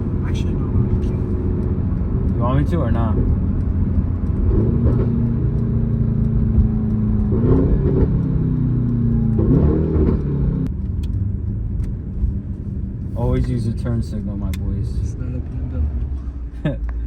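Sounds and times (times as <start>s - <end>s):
car engine and exhaust drone: 0.0s - 17.0s.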